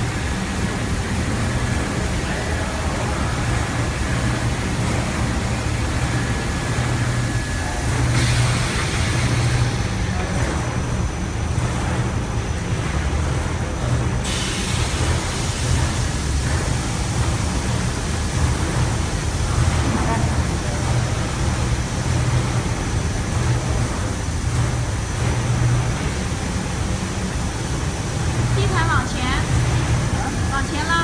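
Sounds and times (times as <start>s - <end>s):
carpet washing machine running: 0.0s - 31.0s.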